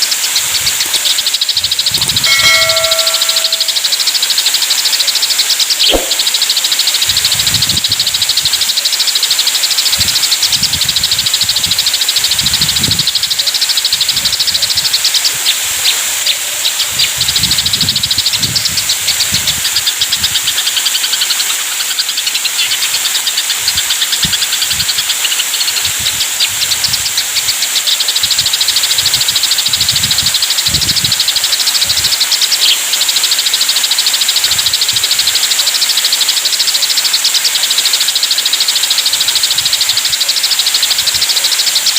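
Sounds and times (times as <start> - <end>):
sparrows chattering: 0.0 - 41.9
steady hiss: 0.0 - 41.9.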